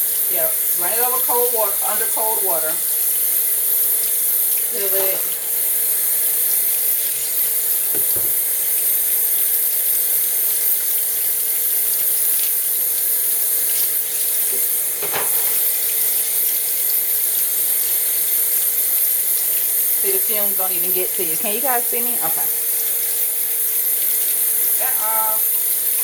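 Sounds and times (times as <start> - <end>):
water running into sink: 0.0 - 26.0.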